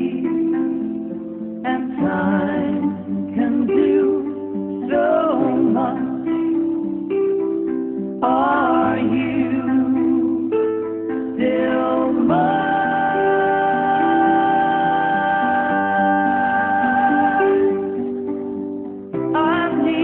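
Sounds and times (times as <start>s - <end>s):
plucked-string accompaniment: 0.0s - 20.0s
sliding melody line: 0.0s - 20.0s.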